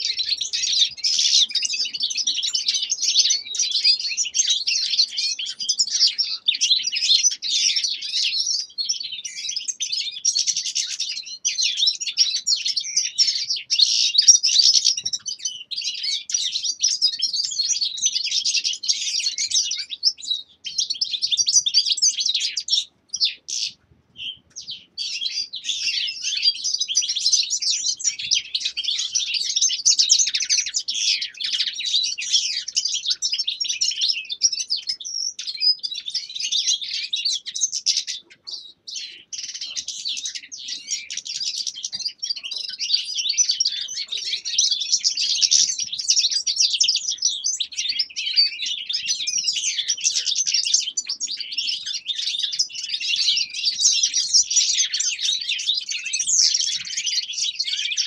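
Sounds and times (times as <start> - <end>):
finches twittering: 0.0 - 58.0.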